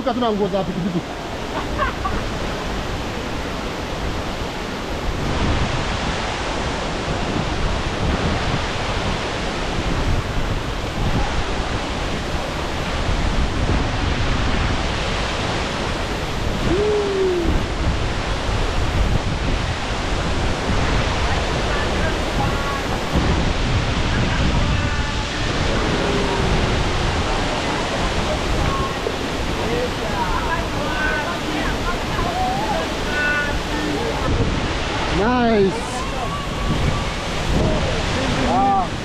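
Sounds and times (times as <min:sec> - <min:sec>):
waterfall roaring: 0:00.0 - 0:39.0.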